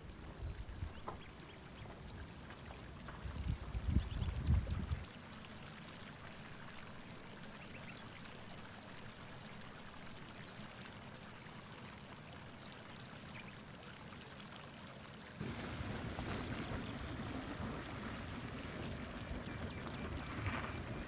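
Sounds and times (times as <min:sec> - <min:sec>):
faint steady hiss: 0:00.0 - 0:21.0
hot spring water bubbling: 0:00.0 - 0:21.0.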